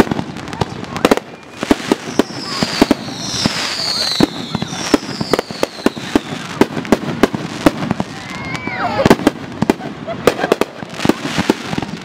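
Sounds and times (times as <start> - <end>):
falling fireworks whistles: 0.0 - 12.0
fireworks bangs: 0.0 - 12.0.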